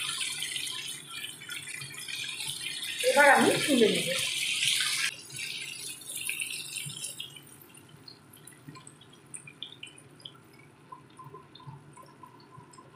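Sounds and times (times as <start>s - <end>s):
fish sizzling in hot oil: 0.0s - 10.5s.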